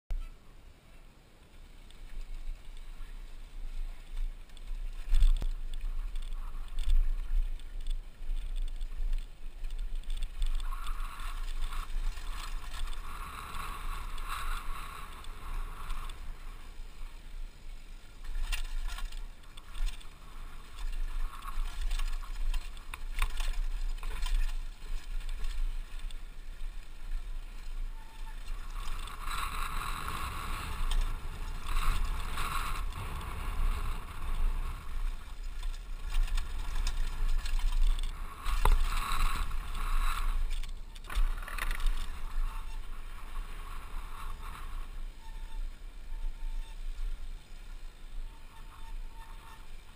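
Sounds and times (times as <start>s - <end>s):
wind rumbling on microphone: 0.1s - 49.9s
bike rattling and knocking: 4.0s - 17.0s, 18.1s - 45.6s.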